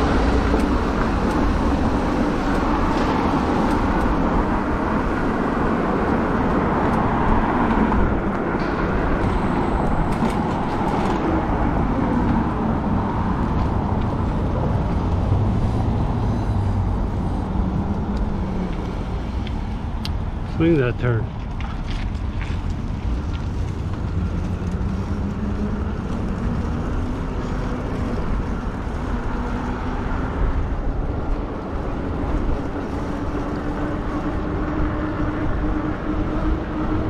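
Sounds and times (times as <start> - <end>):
road traffic hum: 0.0 - 37.0
tyres rolling on pavement: 0.0 - 37.0
wind rushing over microphone: 0.0 - 37.0.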